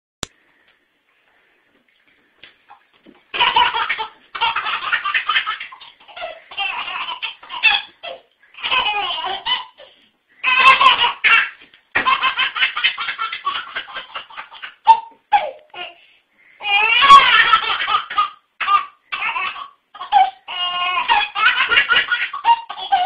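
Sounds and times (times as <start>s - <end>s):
baby laughing: 3.3s - 16.0s, 16.6s - 23.0s.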